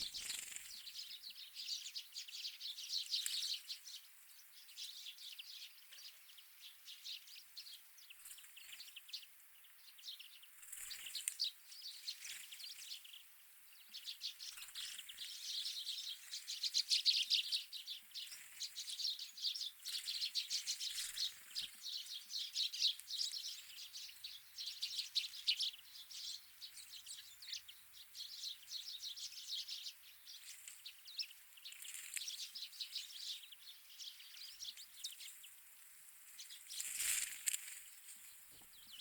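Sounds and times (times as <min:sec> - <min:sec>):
birds chirping and twittering: 0:00.0 - 0:39.0.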